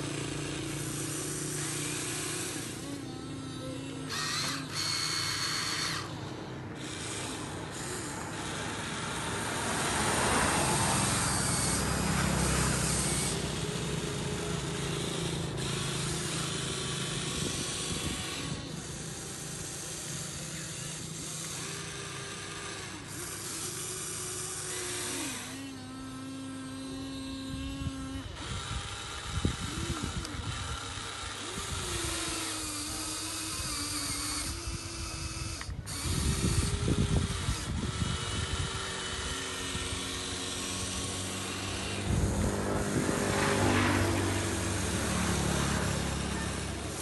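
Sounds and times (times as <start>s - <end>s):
small electric motors whining: 0.0s - 47.0s.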